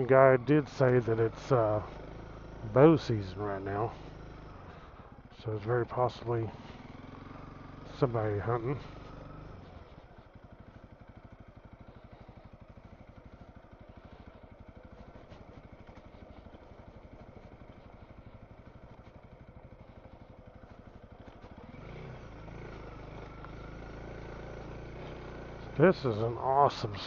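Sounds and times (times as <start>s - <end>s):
motorcycle engine at low revs: 0.0s - 27.0s.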